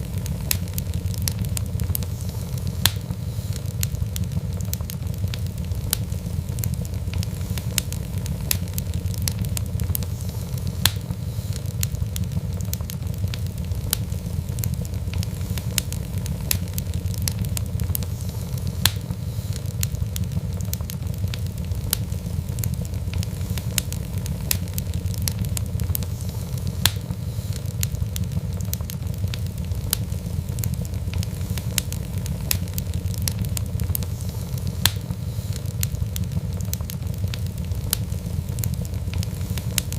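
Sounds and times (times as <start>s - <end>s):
fireplace fire crackling: 0.0s - 39.9s
low roar of fire: 0.0s - 39.9s
sharp pop of fire: 0.0s - 39.9s.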